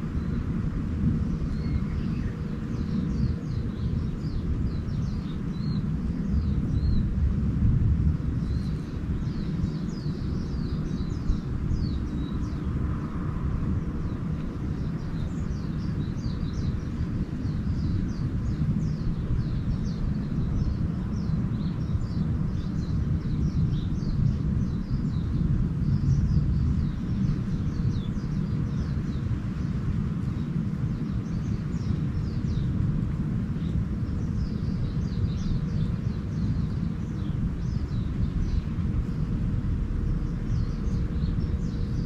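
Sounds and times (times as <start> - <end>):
small birds chirping: 0.0 - 42.0
steady low rumble: 0.0 - 42.0.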